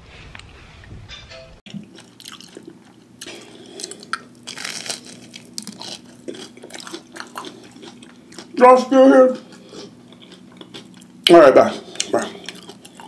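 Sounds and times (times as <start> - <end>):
crunchy food chewing: 1.7 - 8.6, 9.3 - 13.0.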